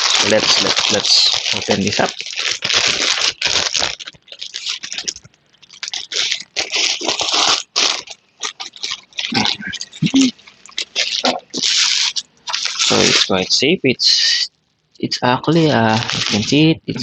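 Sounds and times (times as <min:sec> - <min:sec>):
plastic packaging tearing and crinkling: 0:00.0 - 0:13.6, 0:14.7 - 0:16.7.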